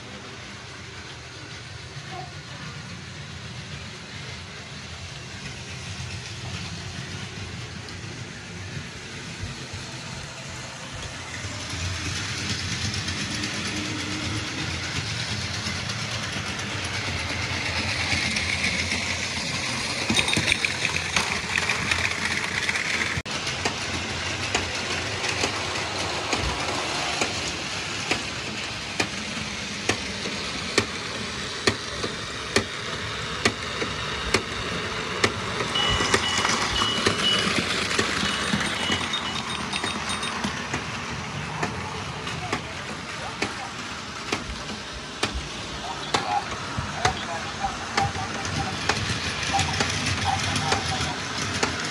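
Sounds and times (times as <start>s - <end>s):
sharp clicks of train on track: 0.0s - 51.9s.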